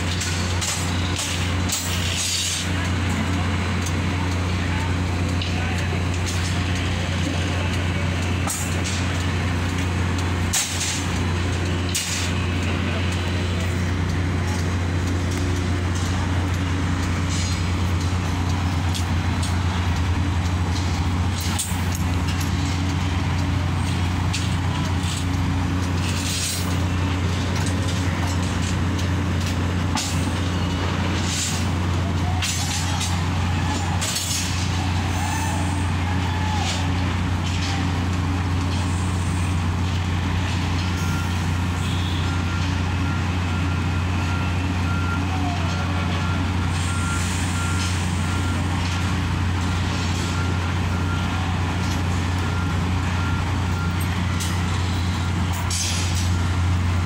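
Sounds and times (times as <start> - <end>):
heavy machinery engine hum: 0.0 - 57.0.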